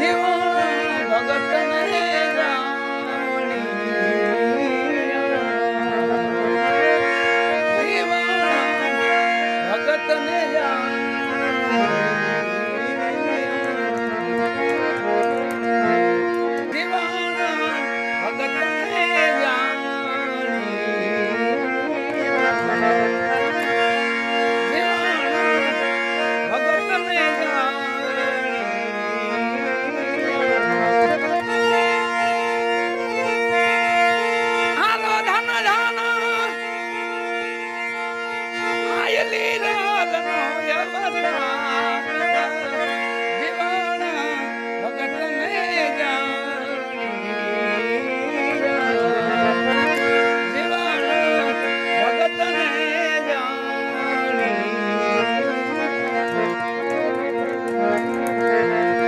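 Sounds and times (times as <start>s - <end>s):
harmonium melody over drone: 0.0s - 59.0s.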